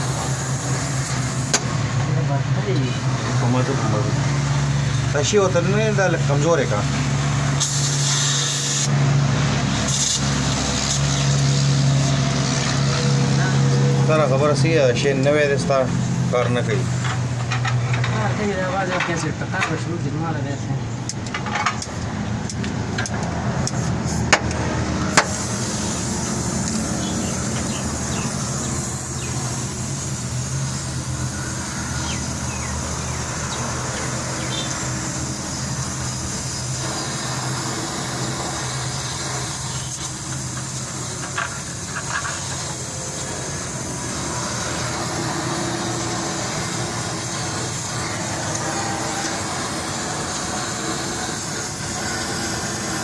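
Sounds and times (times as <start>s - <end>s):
welding torch hissing: 0.0s - 1.9s, 3.1s - 17.5s, 23.7s - 53.0s.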